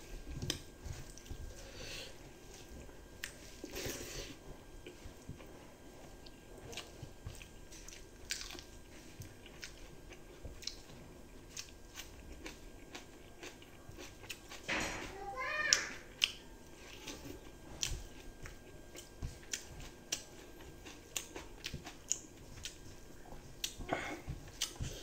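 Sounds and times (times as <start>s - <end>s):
person chewing with mouth smacks: 0.2s - 1.6s, 2.2s - 14.6s, 16.1s - 25.0s.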